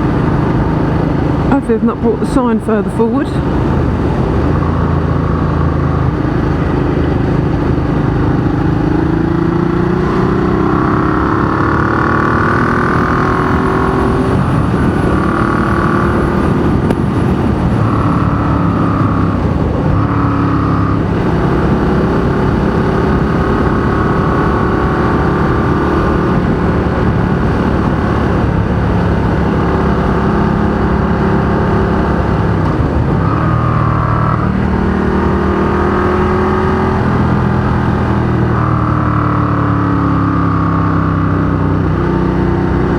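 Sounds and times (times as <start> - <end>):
motorcycle engine accelerating: 0.0 - 42.9
wind rush: 2.5 - 38.5.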